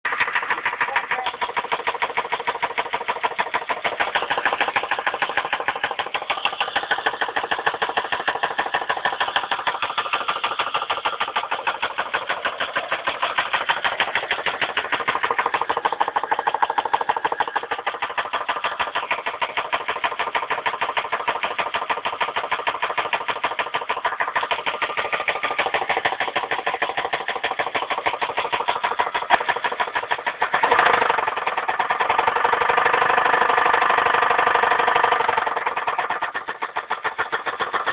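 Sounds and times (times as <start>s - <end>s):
engine running with rapid knock: 0.0s - 37.9s.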